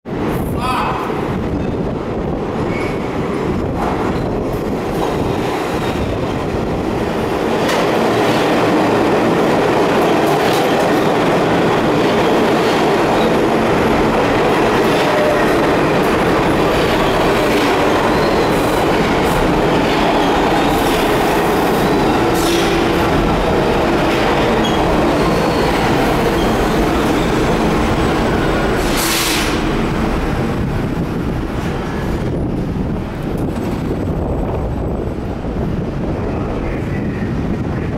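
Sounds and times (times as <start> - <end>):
subway train running noise: 0.1 - 37.9.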